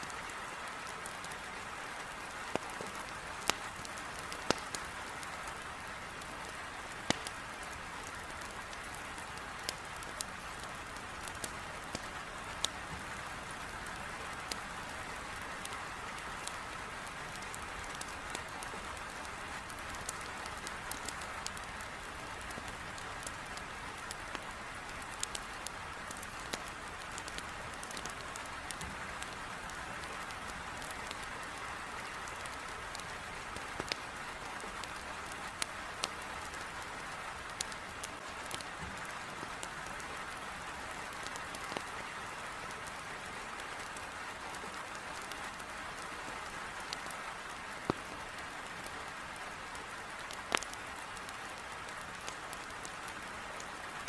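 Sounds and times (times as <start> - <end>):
heavy rain on a window: 0.0 - 54.0
wood fire crackling: 0.0 - 54.0.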